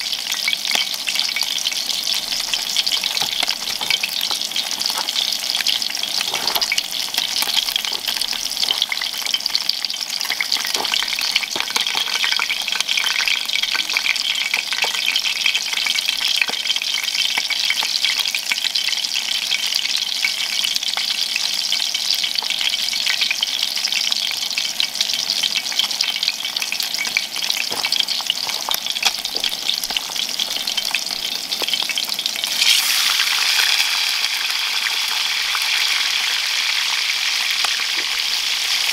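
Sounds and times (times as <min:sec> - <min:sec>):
fish frying in oil: 0:00.0 - 0:38.9.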